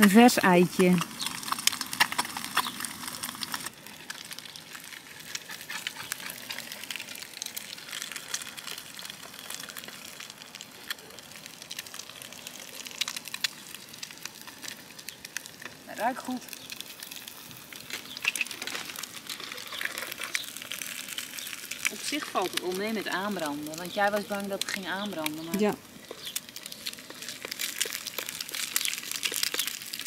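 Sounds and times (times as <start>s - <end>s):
egg sizzling in a pan: 0.0s - 30.0s.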